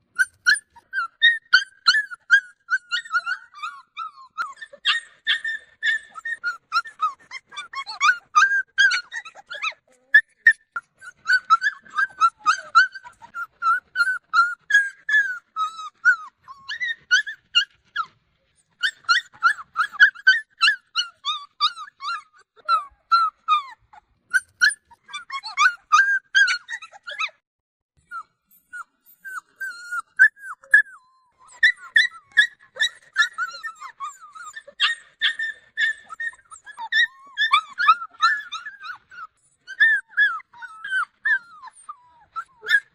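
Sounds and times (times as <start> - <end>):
dogs whimpering and yelping: 0.0 - 27.4, 28.0 - 42.9.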